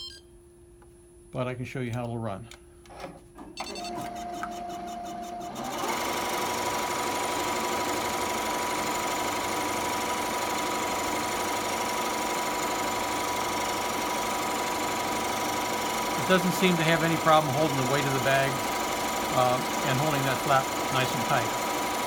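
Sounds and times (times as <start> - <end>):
embroidery machine running: 3.6 - 22.0.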